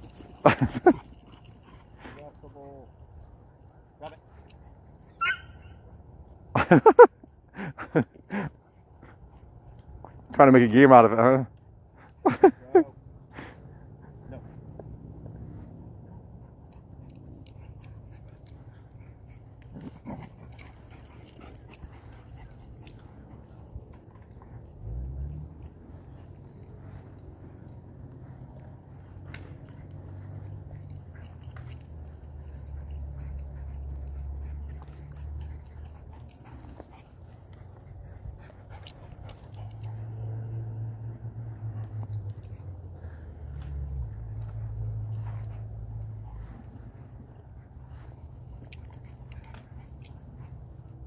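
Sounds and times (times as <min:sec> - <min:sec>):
dogs playing on grass: 0:00.0 - 0:51.0.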